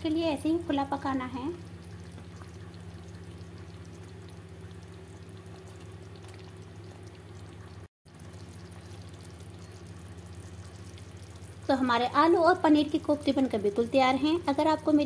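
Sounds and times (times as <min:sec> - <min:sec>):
steady low hum: 0:00.0 - 0:15.0
gravy bubbling: 0:00.1 - 0:15.0.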